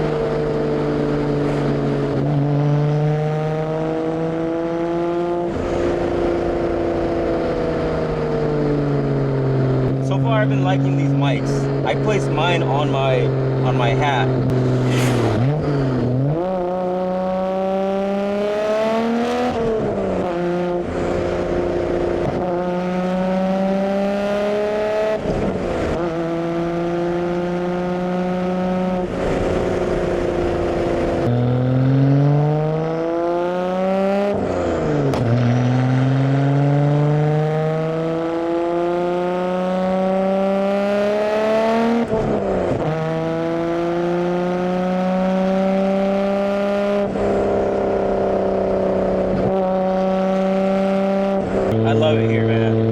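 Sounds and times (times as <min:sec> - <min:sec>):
car exhaust revving through gears: 0:00.0 - 0:52.9.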